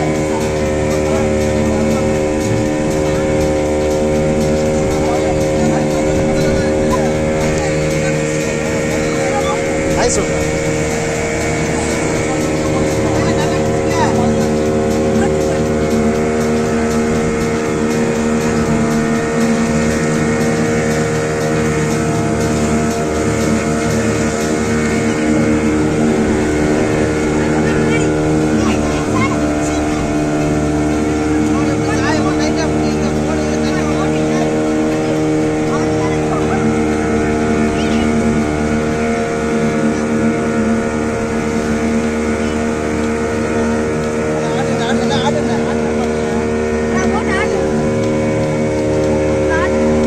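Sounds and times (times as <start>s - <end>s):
motorboat engine running: 0.0s - 50.0s
water noise: 0.0s - 50.0s
wind: 0.0s - 50.0s.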